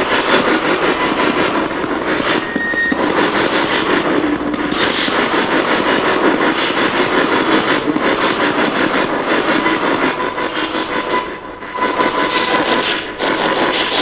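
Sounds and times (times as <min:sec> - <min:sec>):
choppy radio static: 0:00.0 - 0:14.0.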